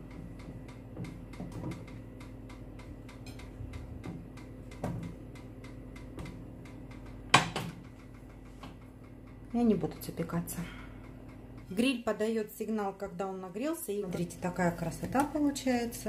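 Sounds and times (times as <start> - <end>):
grill ticking: 0.0 - 16.0
steady hum: 0.0 - 16.0.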